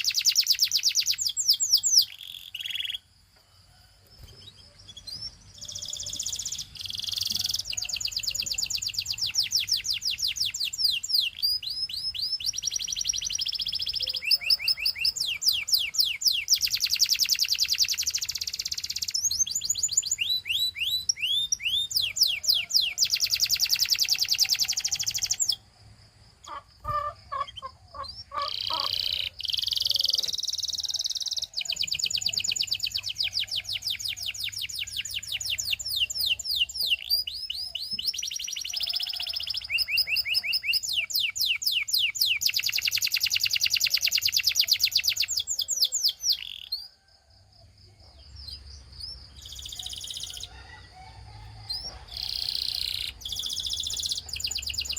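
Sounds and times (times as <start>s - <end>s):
canary singing trills: 0.0s - 3.1s, 3.8s - 25.7s, 26.4s - 47.1s, 48.0s - 54.9s.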